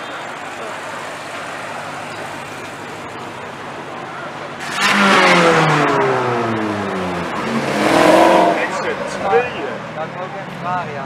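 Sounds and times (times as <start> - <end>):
car engine accelerating loudly: 0.0 - 11.0
street traffic: 0.0 - 11.0.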